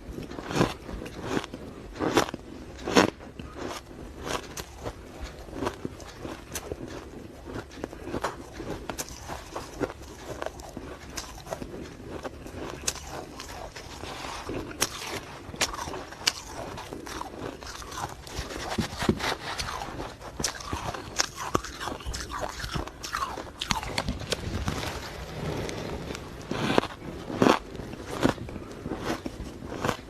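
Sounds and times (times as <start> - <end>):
ice being chewed: 0.0 - 30.0.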